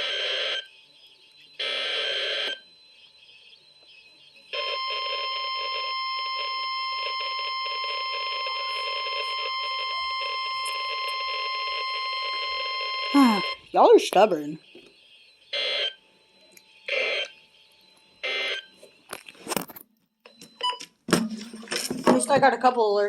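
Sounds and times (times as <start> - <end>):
steady high alarm tone: 0.0 - 19.2.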